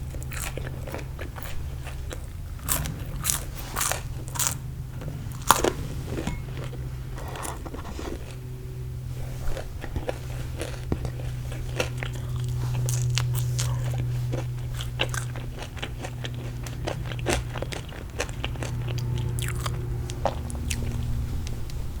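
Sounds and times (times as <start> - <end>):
chewing crunchy food: 0.0 - 21.8
low hum: 0.0 - 22.0.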